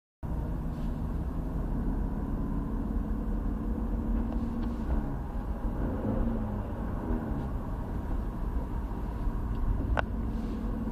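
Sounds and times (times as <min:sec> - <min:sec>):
car engine running: 0:00.2 - 0:10.9.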